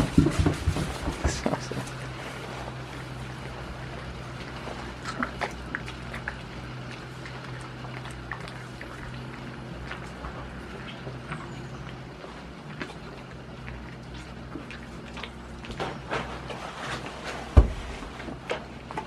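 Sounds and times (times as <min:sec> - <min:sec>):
goat chewing: 0:00.0 - 0:19.0
steady low hum: 0:00.0 - 0:19.0.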